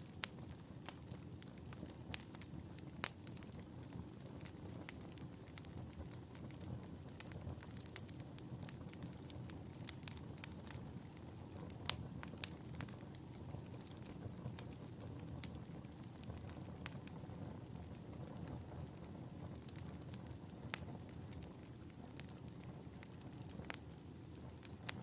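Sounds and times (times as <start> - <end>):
flames rustling: 0.0 - 25.0
wood fire crackling: 0.0 - 25.0.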